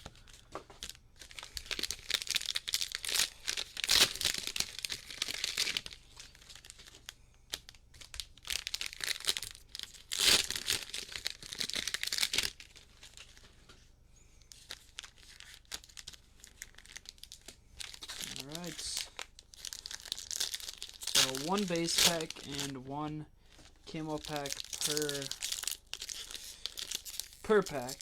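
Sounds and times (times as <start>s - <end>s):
cellophane wrappers crinkling and tearing: 0.0s - 13.7s, 14.4s - 28.0s.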